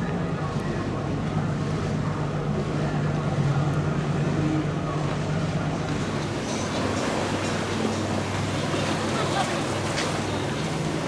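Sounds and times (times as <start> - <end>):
powerboat engine droning: 0.0 - 11.0
water wash: 1.6 - 11.0.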